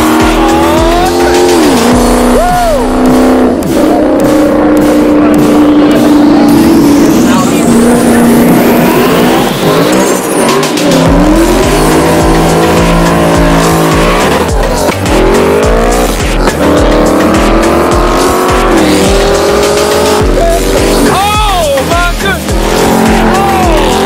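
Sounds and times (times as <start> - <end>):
car engines revving: 0.0 - 24.0
music with heavy bass: 0.0 - 24.0
tires squealing: 0.0 - 24.0.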